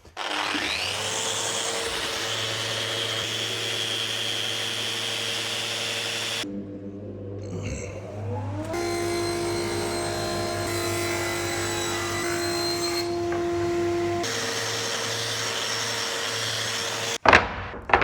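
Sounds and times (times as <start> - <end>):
sander whining on wood: 0.0 - 6.5, 8.0 - 17.2.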